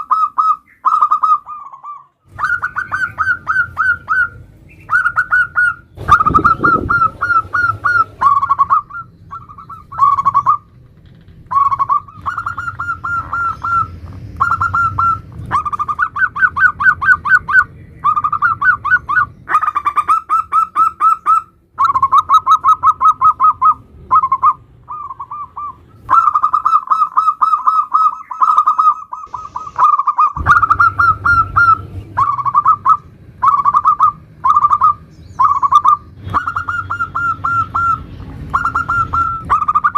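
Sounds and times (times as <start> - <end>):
dove cooing: 0.0 - 39.9
faint low hum: 0.0 - 39.9.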